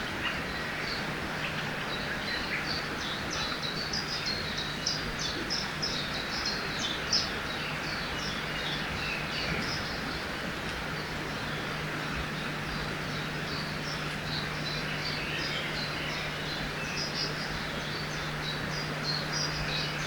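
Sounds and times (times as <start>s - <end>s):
river water rushing: 0.0s - 20.0s
small birds chirping: 0.0s - 20.0s.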